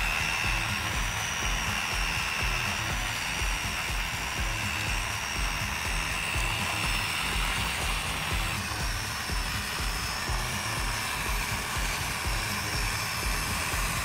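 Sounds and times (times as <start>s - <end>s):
background music with beat: 0.0s - 14.0s
small electric motor whine: 0.0s - 14.0s.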